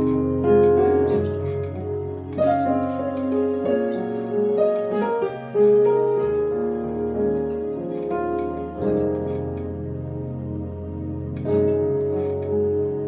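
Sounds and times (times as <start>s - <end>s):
keyboard playing soft chords: 0.0s - 13.0s.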